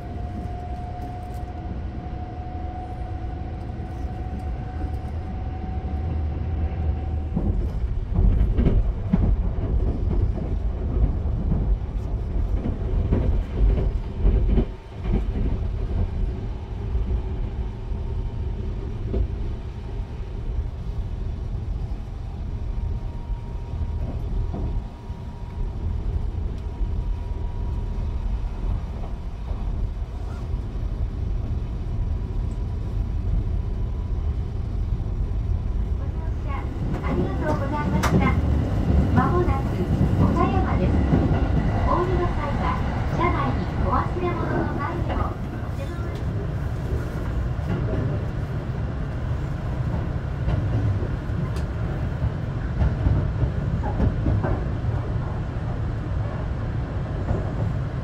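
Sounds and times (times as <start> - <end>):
passing train rush and clatter: 0.0 - 58.0
train wheels rumbling on track: 0.0 - 58.0.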